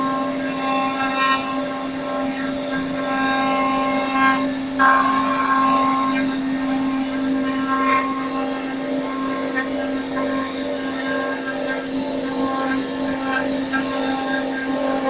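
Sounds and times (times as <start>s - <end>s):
cnc router motor whine: 0.0s - 15.0s.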